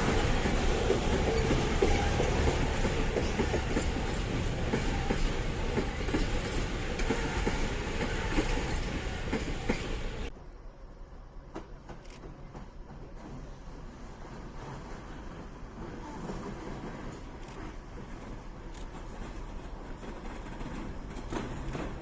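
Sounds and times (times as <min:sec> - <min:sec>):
train wheels clacking: 0:00.0 - 0:10.3, 0:11.5 - 0:22.0.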